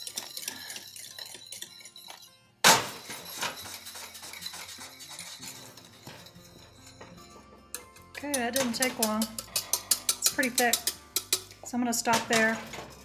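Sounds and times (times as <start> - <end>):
whisk scraping a saucepan: 0.0 - 2.3, 3.0 - 11.6
metal clank on pot: 0.0 - 13.0.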